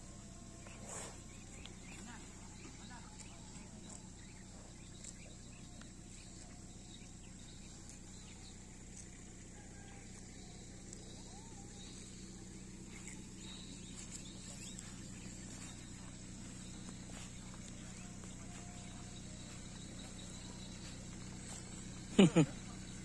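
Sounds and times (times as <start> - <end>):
bird calls: 0.0 - 23.0
insect buzz: 0.0 - 23.0
low hum: 0.0 - 23.0.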